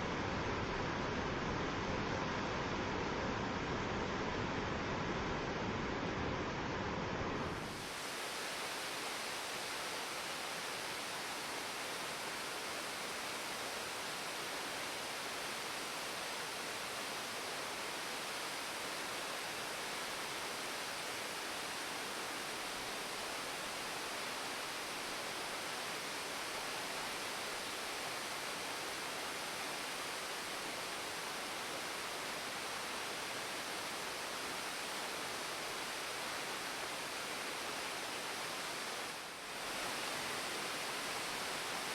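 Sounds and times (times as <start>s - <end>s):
waterfall rushing: 7.5s - 41.9s.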